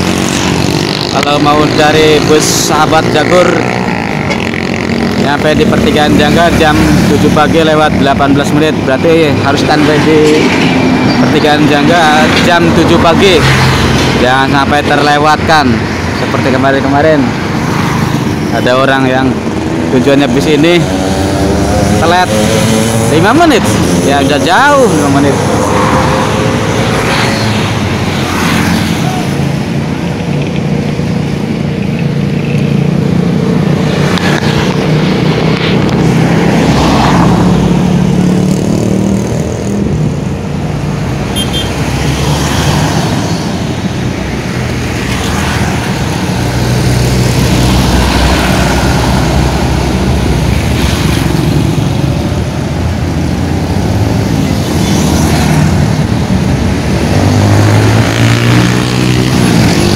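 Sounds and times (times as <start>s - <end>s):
vehicle engines passing by: 0.0s - 59.9s.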